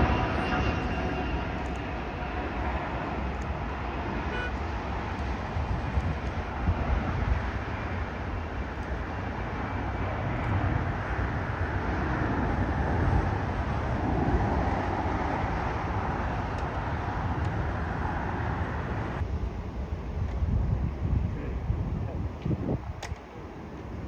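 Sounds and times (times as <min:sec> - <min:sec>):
jet engines roaring: 0:00.0 - 0:20.2.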